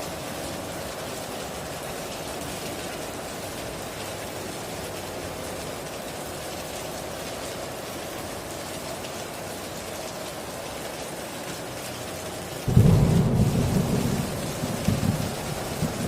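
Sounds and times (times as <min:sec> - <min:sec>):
heavy rain on a tin roof: 0:00.0 - 0:16.0.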